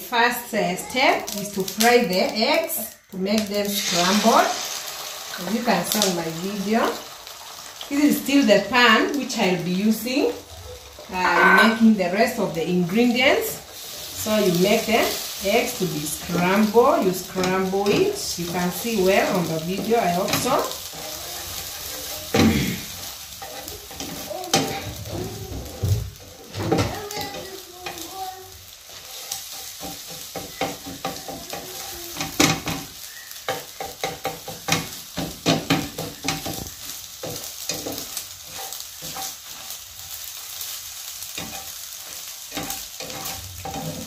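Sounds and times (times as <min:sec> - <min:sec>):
eggs sizzling in hot oil: 0:00.0 - 0:44.0
spatula scraping and tapping pan: 0:03.3 - 0:44.0.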